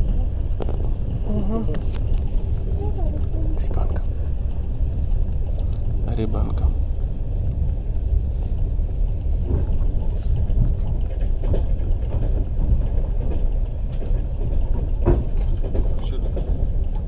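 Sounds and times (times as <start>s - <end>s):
train carriage rumbling on rails: 0.0s - 17.0s.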